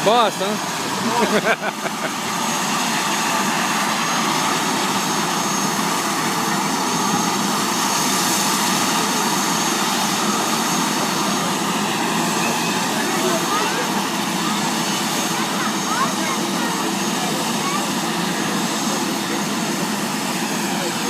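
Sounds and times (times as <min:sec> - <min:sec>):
helicopter rotor and engine: 0:00.0 - 0:21.0
high turbine whine: 0:00.0 - 0:21.0.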